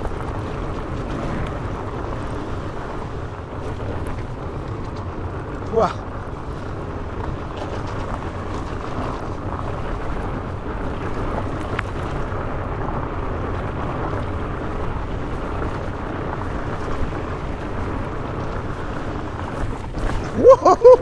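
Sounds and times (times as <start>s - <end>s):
bike knocks and clicks: 0.0s - 20.5s
bike tyres rolling over gravel: 0.0s - 21.0s.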